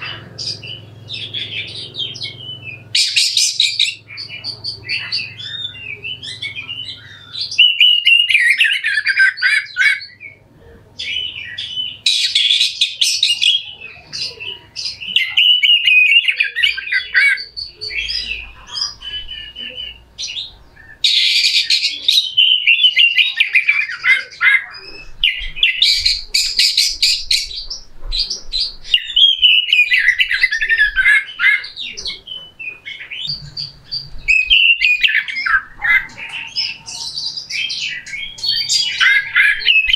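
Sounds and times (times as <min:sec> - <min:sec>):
bird singing harsh song: 0:00.0 - 0:39.9.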